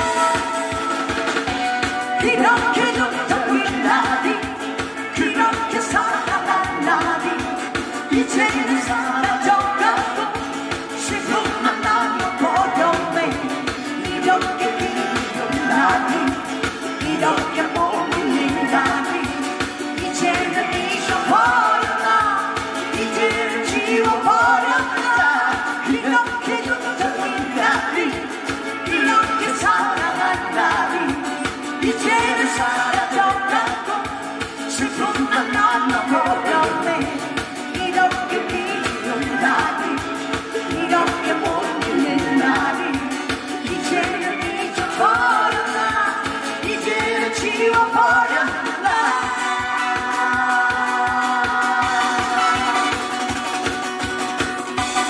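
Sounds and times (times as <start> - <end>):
backing music with steady beat: 0.0 - 55.0
person singing live: 0.0 - 55.0.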